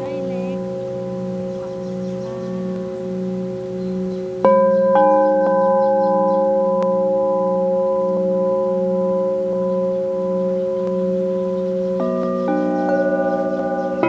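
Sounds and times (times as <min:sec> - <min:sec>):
crystal singing bowls ringing: 0:00.0 - 0:14.0.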